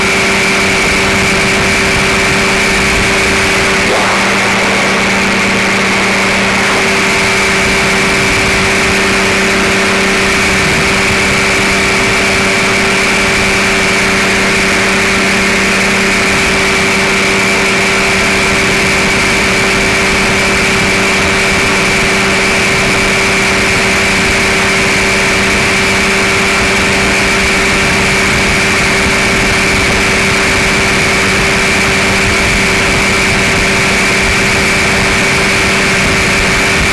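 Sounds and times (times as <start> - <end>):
aircraft engine and propeller drone: 0.0 - 36.9.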